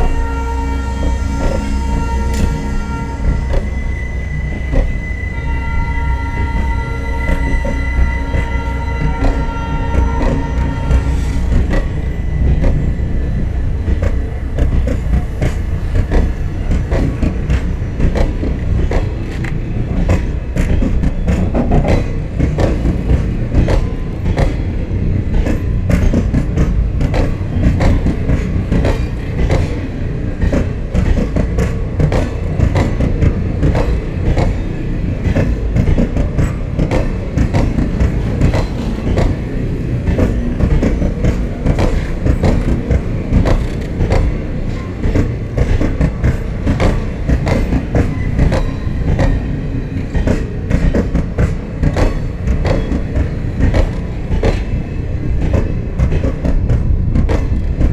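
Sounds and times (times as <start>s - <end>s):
train coaches rumbling past: 0.0s - 57.9s.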